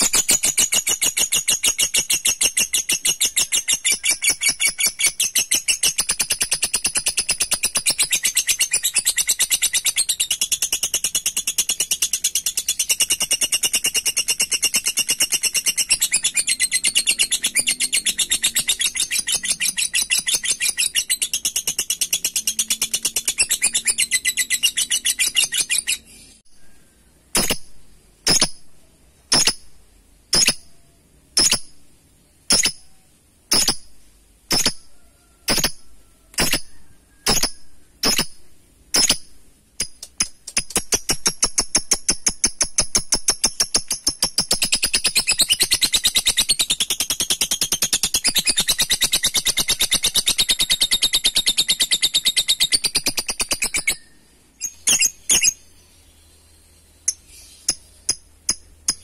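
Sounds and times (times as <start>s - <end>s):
bird sharp chirps: 0.0s - 31.8s, 32.5s - 59.0s.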